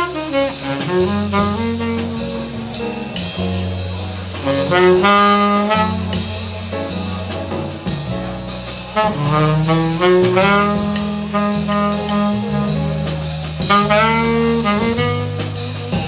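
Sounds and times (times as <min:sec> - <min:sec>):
drum and cymbal hits: 0:00.0 - 0:16.0
saxophone melody: 0:00.0 - 0:16.0
walking bass line: 0:00.0 - 0:16.0.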